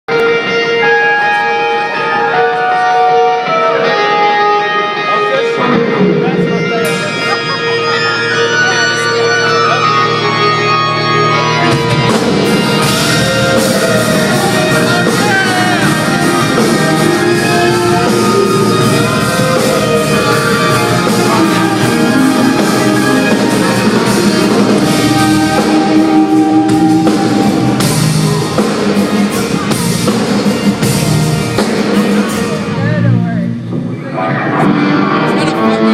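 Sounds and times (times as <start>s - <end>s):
keyboard chords: 0.1s - 35.9s
rock band playing: 0.1s - 35.9s.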